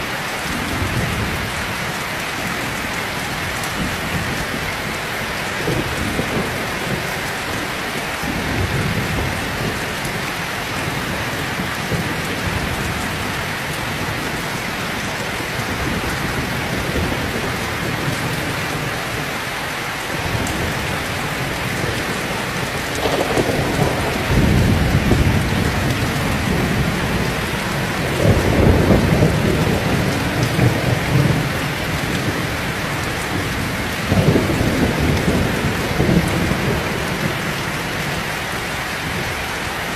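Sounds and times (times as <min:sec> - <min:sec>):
thunder rumbling: 0:00.0 - 0:19.4, 0:20.1 - 0:39.5
heavy rain pouring: 0:00.0 - 0:39.9.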